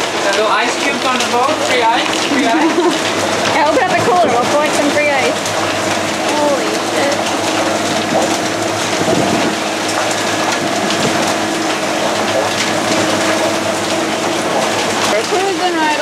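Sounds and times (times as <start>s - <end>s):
hail and heavy rain on deck: 0.0s - 16.0s.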